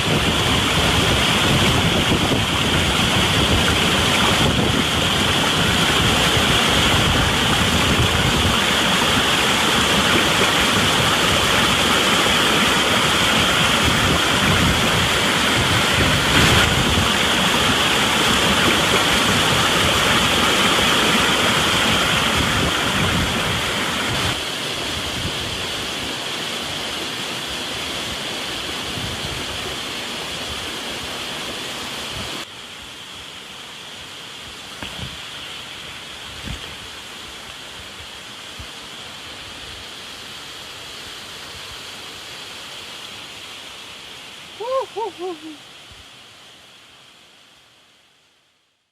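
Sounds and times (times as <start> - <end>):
waterfall splashing: 0.0 - 48.0.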